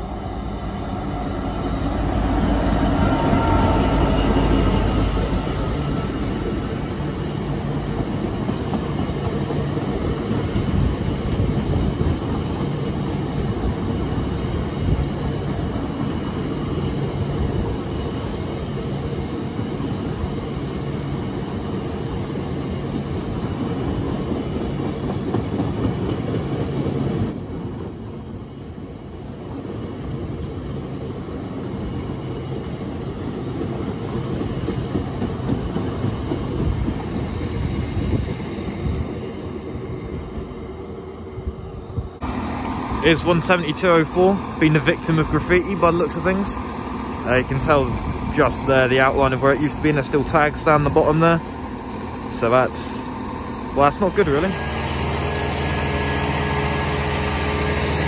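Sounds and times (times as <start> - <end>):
rail noise: 0.0 - 58.0
train rumbling: 0.0 - 58.0.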